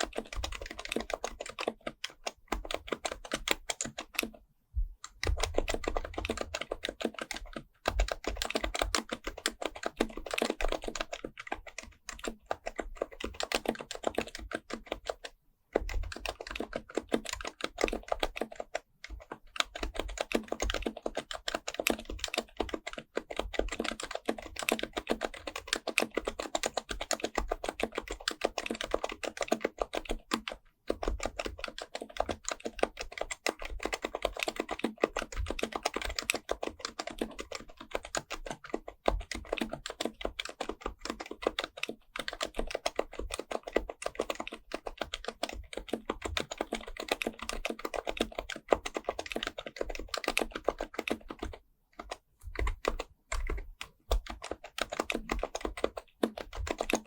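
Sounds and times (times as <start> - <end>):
fast keyboard typing: 0.0 - 4.4, 5.0 - 57.0.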